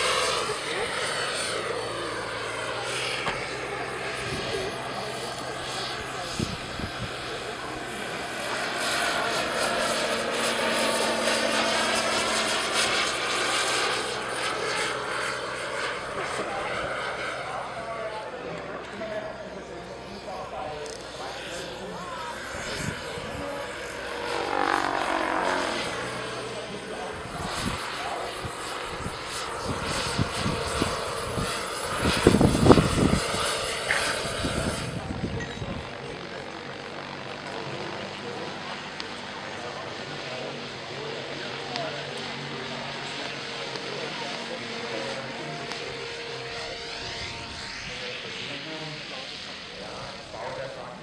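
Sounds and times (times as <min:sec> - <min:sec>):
model helicopter engine and rotor: 0:00.0 - 0:51.0.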